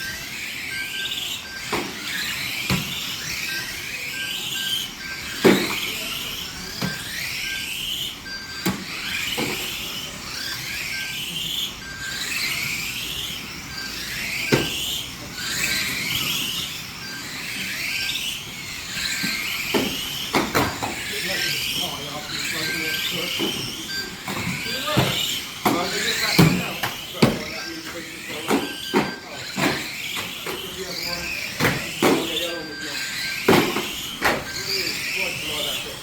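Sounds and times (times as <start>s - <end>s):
toy car motors whining: 0.0s - 36.0s.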